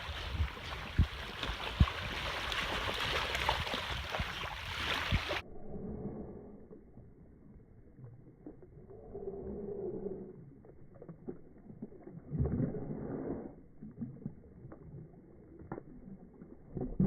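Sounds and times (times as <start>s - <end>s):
water splashing and lapping: 0.0s - 5.4s, 6.7s - 17.0s.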